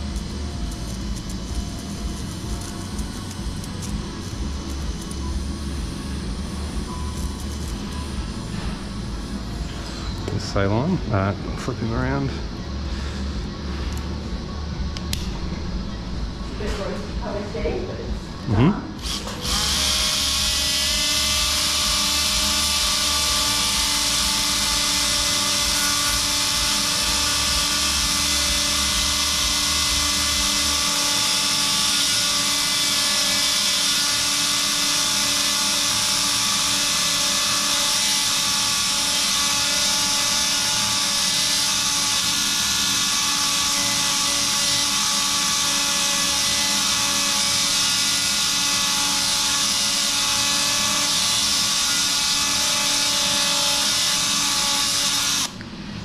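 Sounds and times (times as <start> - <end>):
surgical oscillating saw whine: 0.0 - 56.0.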